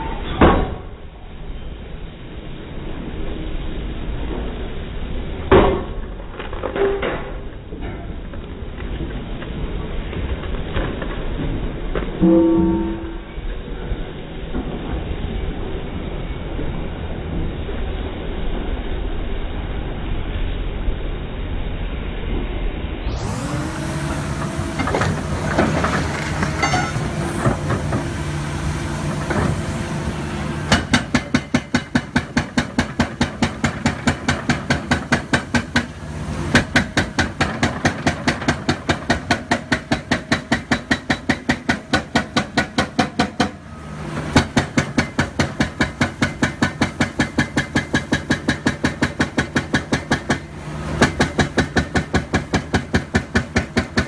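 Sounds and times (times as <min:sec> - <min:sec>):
heavy machine engine running: 0:01.8 - 0:54.0.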